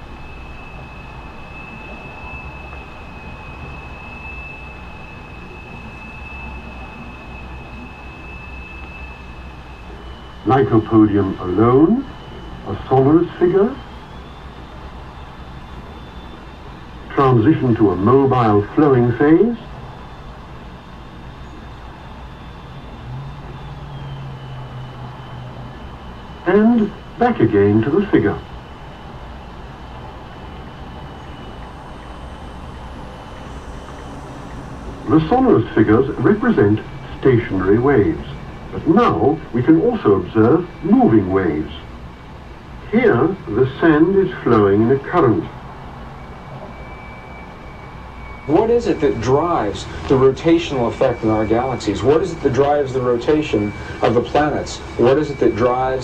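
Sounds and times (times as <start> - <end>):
faint high whine: 0.0 - 56.0
high-pitched single tone: 0.0 - 56.0
low hiss: 0.0 - 56.0
low vibration hum: 0.0 - 56.0.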